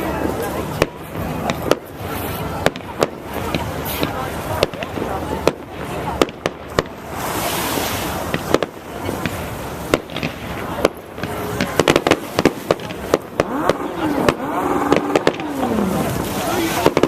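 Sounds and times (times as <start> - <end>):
fireworks bangs: 0.0 - 17.0
fireworks crackling hiss: 0.0 - 17.0.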